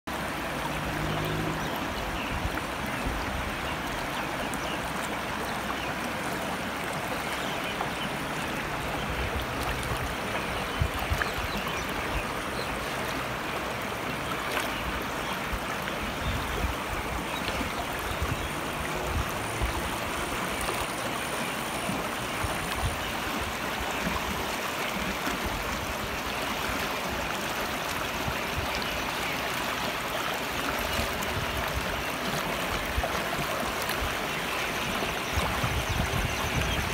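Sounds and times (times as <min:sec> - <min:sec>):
stream rushing over stones: 0:00.0 - 0:36.9.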